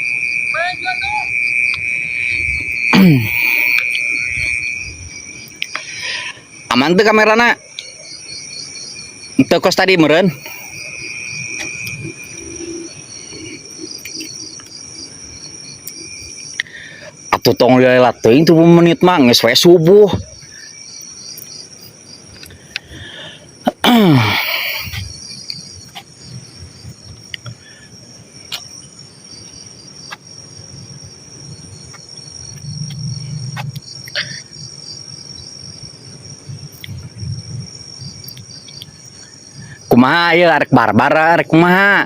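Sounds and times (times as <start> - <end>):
crickets chirring: 0.0 - 42.0.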